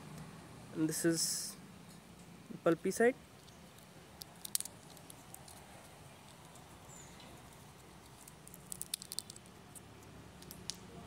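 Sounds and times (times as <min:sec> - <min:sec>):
low background hiss: 0:00.0 - 0:11.0
dry pod shell crackling: 0:01.9 - 0:11.0.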